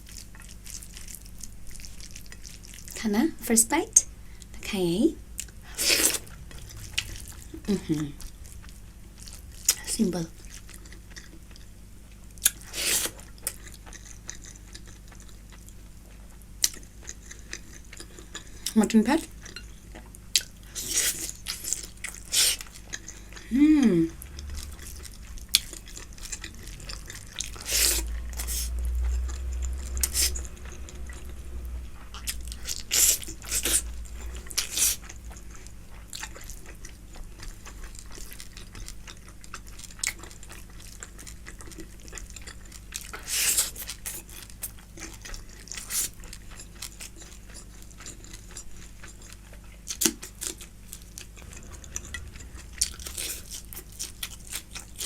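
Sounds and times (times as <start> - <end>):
chewing with wet clicks and crunches: 0.0 - 3.0, 5.4 - 23.5, 24.2 - 55.0.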